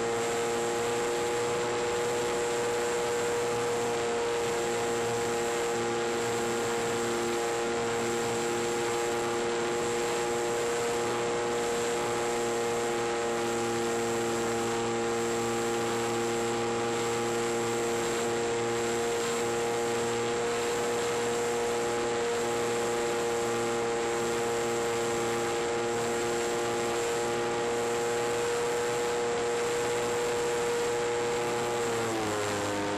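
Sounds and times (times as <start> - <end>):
electrical hum and hiss: 0.0 - 32.9.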